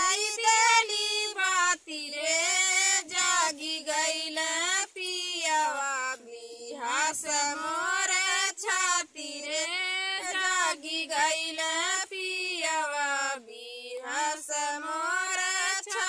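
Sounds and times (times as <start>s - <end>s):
women singing without instruments: 0.0s - 16.0s.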